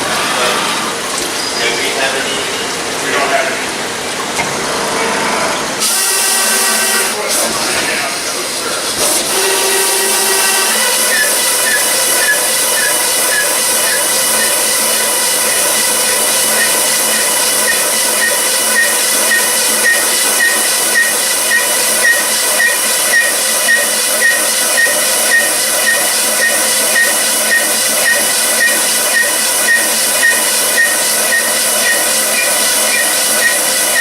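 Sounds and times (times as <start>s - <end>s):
machine tool running with hiss: 4.8s - 34.0s.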